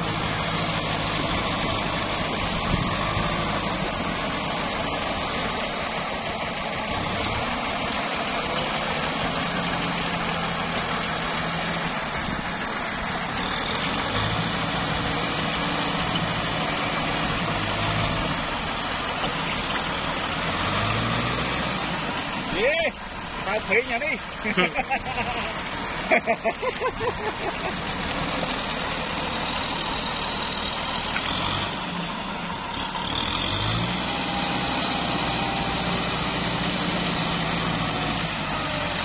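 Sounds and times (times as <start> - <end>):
tractor diesel engine running: 0.0 - 39.0
water and mud churning: 0.0 - 39.0.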